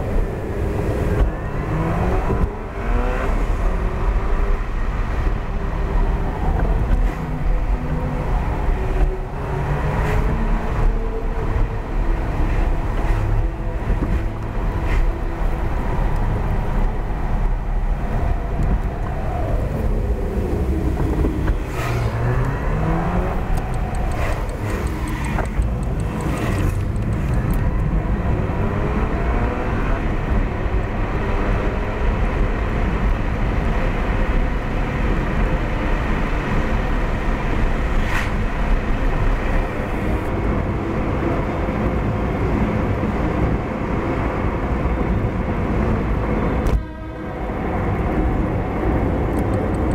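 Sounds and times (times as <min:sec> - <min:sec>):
car engine and tyre noise: 0:00.0 - 0:49.9.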